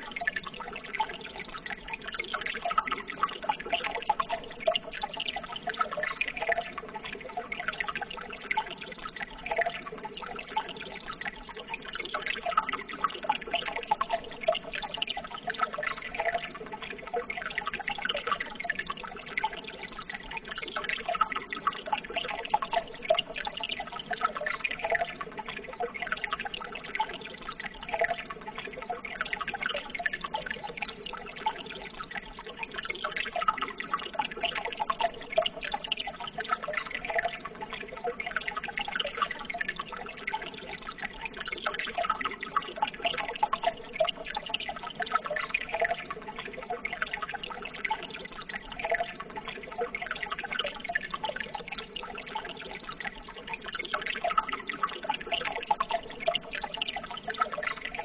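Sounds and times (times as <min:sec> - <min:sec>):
water trickling and burbling: 0:00.0 - 0:58.0.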